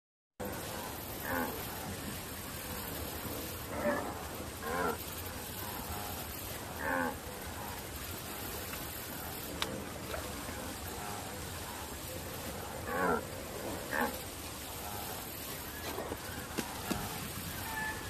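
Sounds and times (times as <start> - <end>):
steady low hiss: 0.4 - 18.0.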